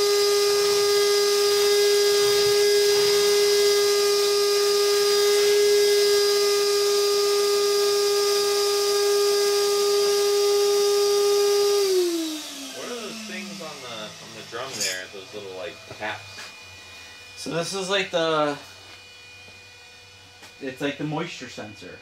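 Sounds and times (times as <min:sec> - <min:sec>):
vacuum cleaner running: 0:00.0 - 0:22.0
vacuum motor winding down: 0:00.0 - 0:22.0.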